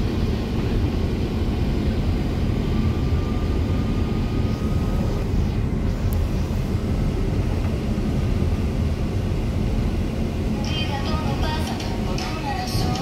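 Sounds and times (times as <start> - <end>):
bus engine drone: 0.0 - 13.0
road rumble: 0.0 - 13.0.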